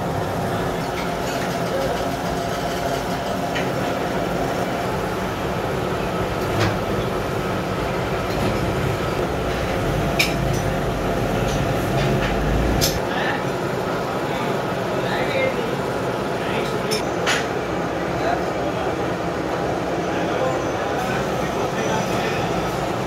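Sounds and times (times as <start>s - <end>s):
machine mechanical hum: 0.0s - 23.0s.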